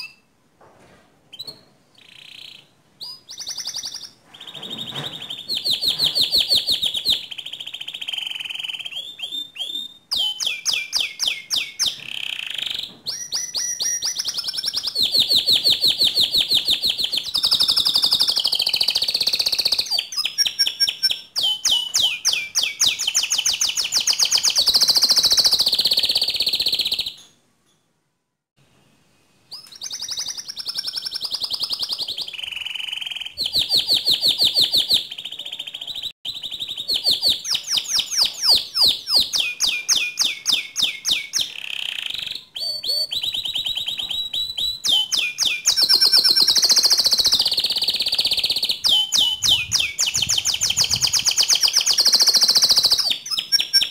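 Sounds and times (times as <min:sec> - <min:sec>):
canary singing trills: 0:01.3 - 0:27.4, 0:29.5 - 0:53.9.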